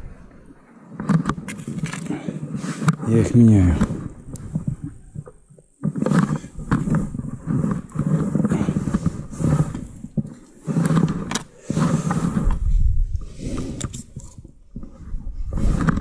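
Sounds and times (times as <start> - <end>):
fabric rubbing against microphone: 0.0 - 16.0.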